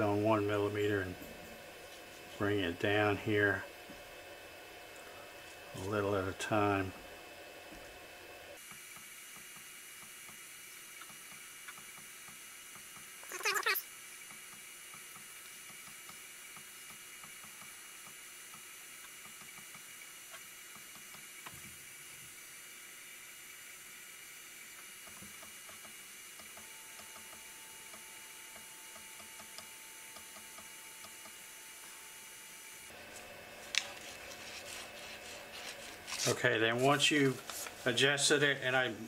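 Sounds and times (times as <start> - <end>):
printer fans hissing and whining: 0.0 - 13.2, 13.9 - 39.0.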